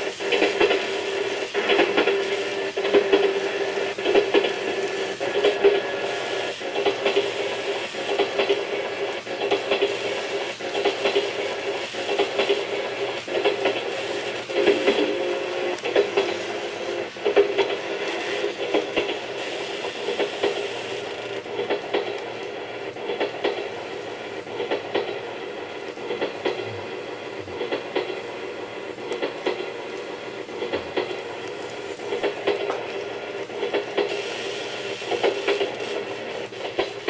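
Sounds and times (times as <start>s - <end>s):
model train humming: 0.0s - 37.0s.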